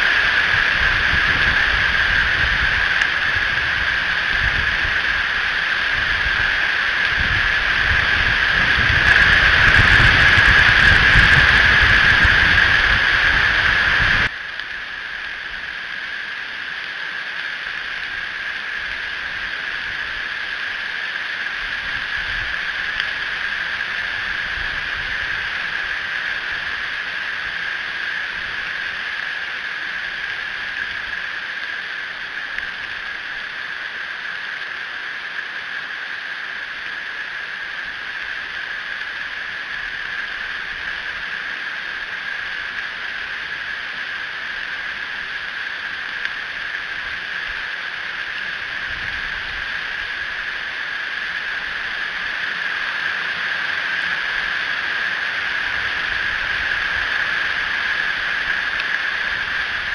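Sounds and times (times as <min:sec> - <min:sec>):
rain and wind: 0:00.0 - 0:59.9.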